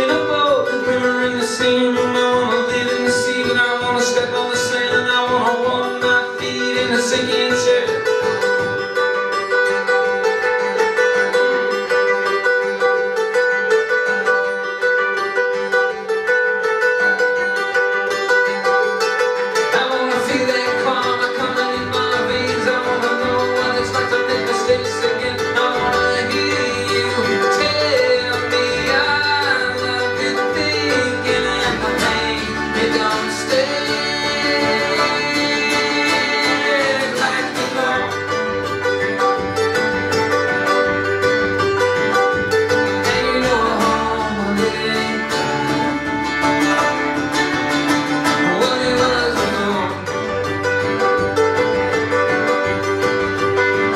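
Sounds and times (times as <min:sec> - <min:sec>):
acoustic guitar: 0:00.0 - 0:53.9
banjo: 0:00.0 - 0:53.9
fiddle: 0:00.0 - 0:53.9
upright bass: 0:00.0 - 0:53.9.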